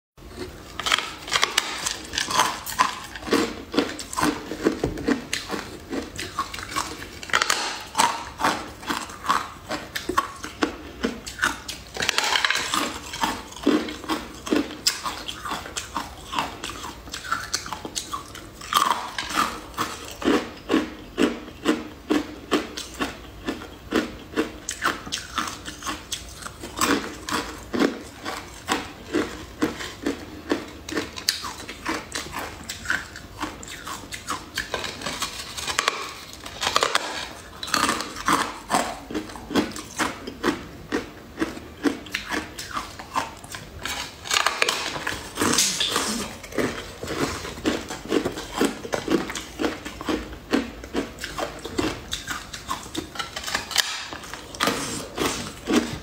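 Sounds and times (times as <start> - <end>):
biting and chewing jelly: 0.2 - 56.0.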